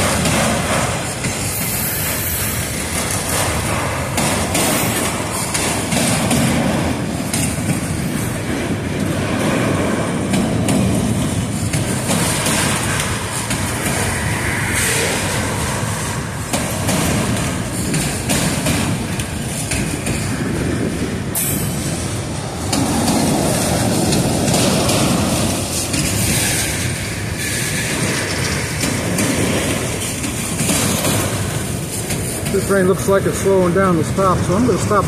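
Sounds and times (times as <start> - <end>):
freight train wheels rumbling on rails: 0.0 - 35.0.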